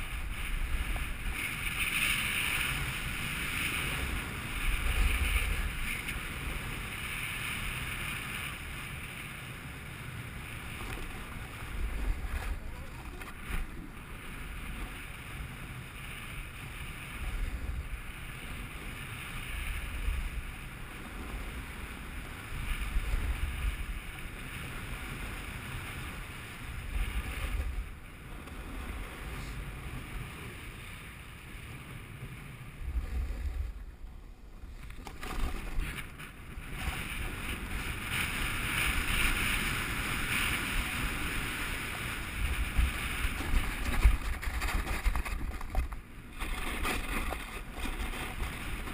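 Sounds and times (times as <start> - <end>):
skis sliding over snow: 0.0 - 48.9
wind buffeting microphone: 0.0 - 48.9.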